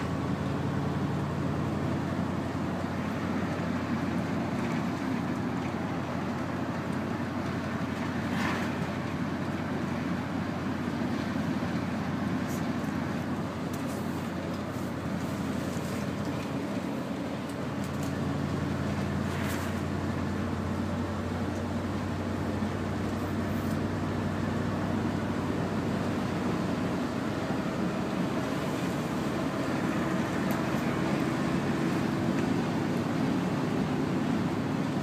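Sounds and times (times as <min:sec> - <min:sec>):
diesel engine droning: 0:00.0 - 0:35.0
tyre and road noise: 0:00.0 - 0:35.0.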